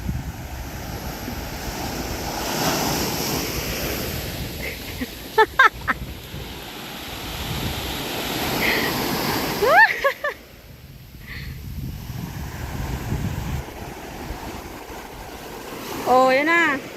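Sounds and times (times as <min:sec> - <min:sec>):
waves washing on a beach: 0:00.0 - 0:16.9.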